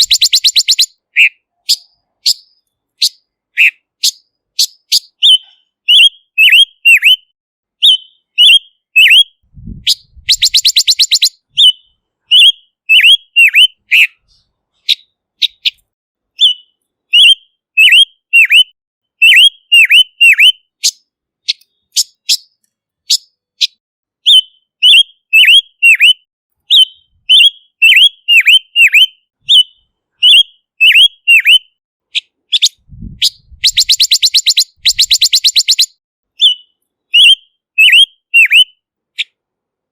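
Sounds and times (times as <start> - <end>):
bird calling sharp notes: 0.0 - 15.8, 16.4 - 39.4.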